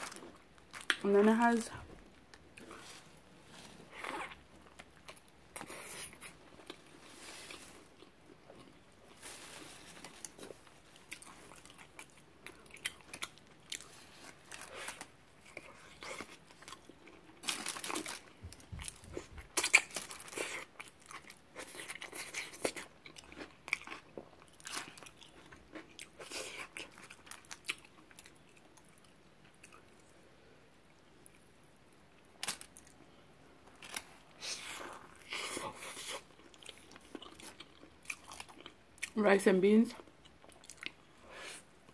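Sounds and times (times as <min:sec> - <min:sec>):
biting and crunchy chewing: 0:02.1 - 0:30.1, 0:31.2 - 0:39.2, 0:40.0 - 0:41.9.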